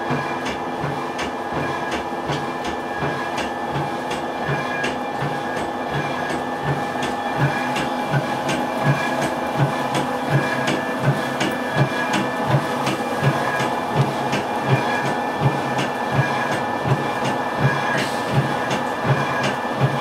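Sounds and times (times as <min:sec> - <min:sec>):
mill machinery humming: 0:00.0 - 0:20.0.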